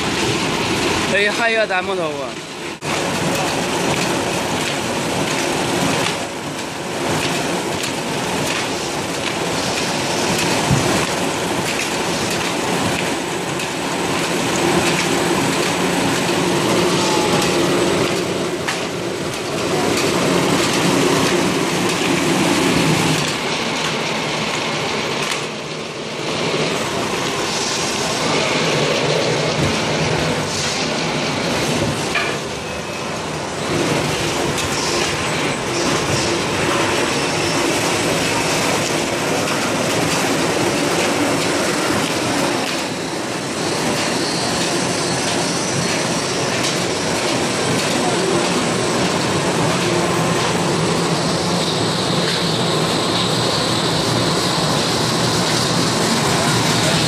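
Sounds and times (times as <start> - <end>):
machinery clatter and rumble: 2.4 - 57.0.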